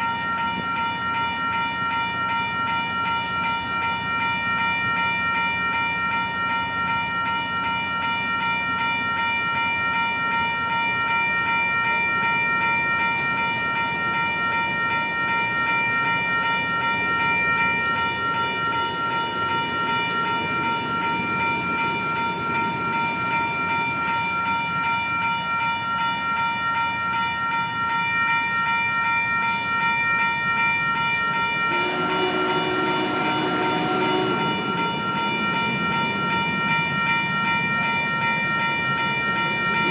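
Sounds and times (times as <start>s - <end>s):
crossing warning bell: 0.0s - 39.9s
train wheels rumbling on rails: 0.0s - 39.9s.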